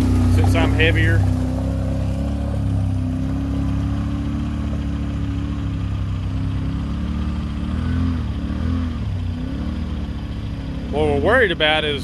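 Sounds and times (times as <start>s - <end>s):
off-road vehicle engine at low revs: 0.0s - 12.0s.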